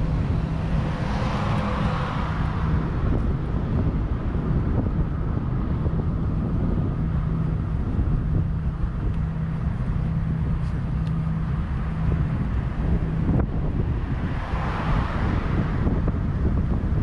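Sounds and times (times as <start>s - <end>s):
low motor hum: 0.0s - 17.0s
wind rumble on microphone: 0.0s - 17.0s.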